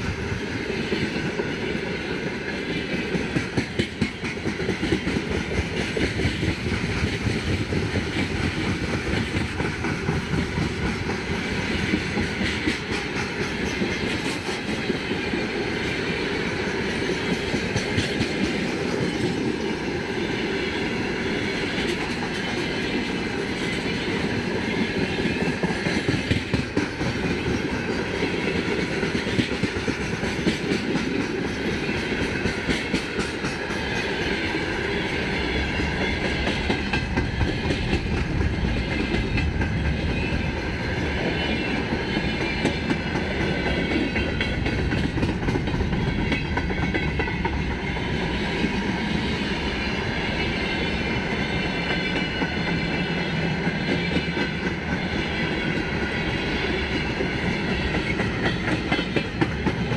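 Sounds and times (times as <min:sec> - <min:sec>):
freight train rumbling and rattling: 0:00.0 - 0:59.9.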